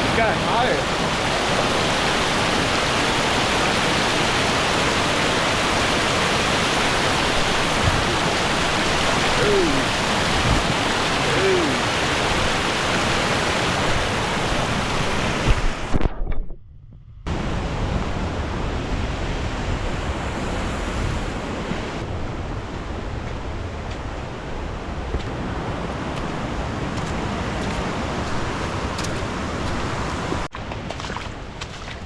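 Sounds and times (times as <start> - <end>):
rushing water: 0.0 - 16.0, 17.3 - 32.0.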